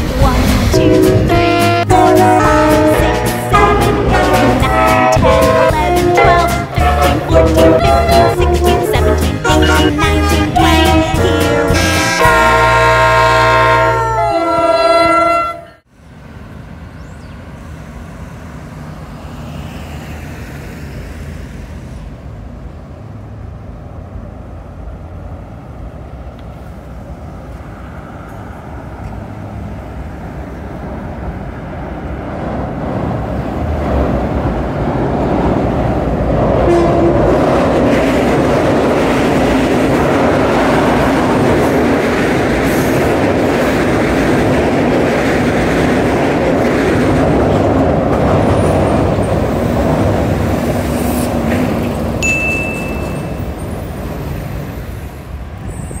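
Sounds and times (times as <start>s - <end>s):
train rumbling over viaduct: 0.0s - 56.0s.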